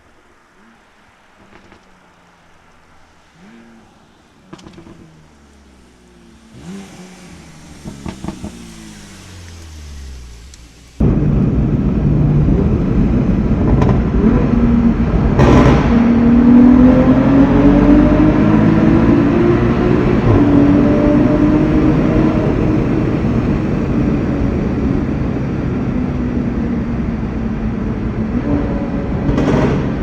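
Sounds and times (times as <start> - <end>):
car engine accelerating hard: 0.4 - 30.0.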